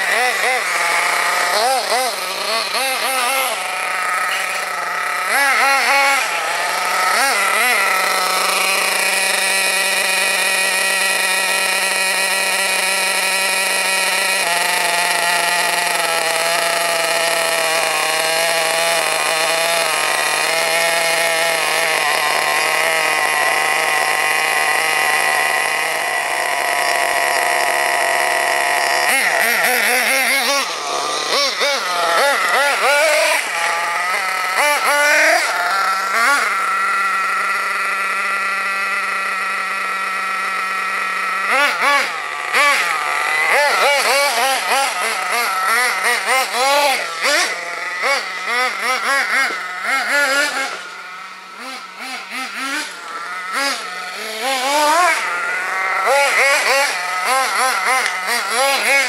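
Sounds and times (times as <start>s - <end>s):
small nitro engine idling and revving: 0.0s - 59.0s.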